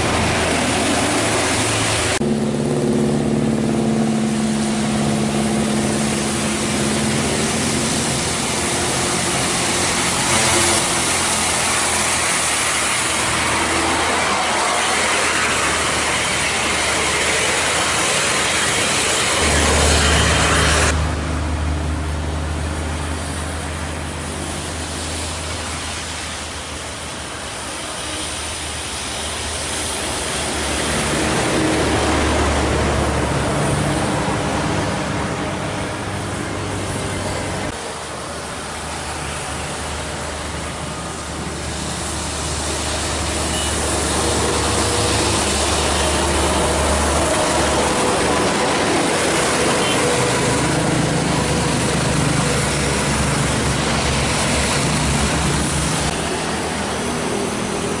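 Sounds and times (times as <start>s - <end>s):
diesel bus engines passing: 0.0s - 58.0s
traffic on wet road: 0.0s - 58.0s.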